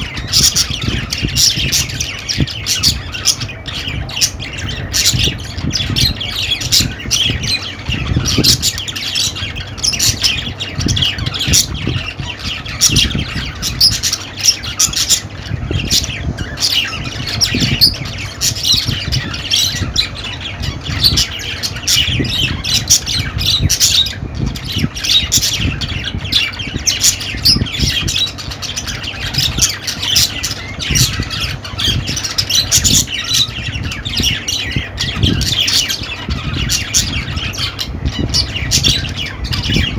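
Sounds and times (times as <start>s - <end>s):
budgies chattering and squawking: 0.0s - 39.9s.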